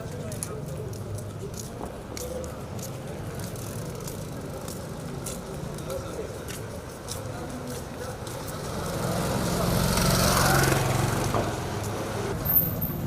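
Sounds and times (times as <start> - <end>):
distant voices: 0.0 - 13.0
street noise: 0.0 - 13.0.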